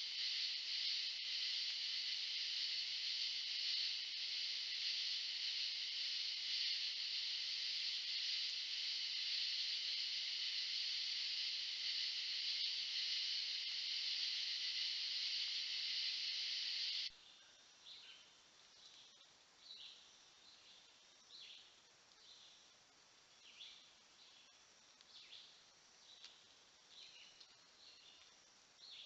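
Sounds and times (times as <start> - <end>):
insects chorus: 0.0 - 29.0.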